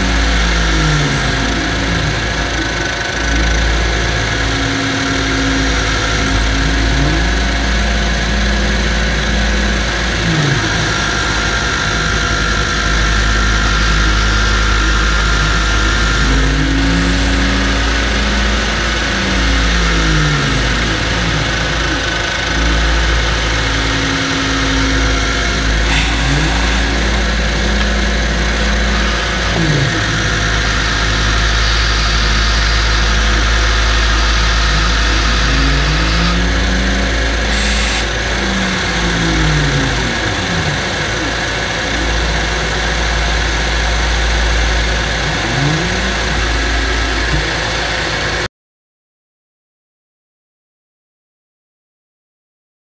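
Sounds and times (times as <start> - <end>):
shop vacuum sucking metal chips: 0.0 - 48.4.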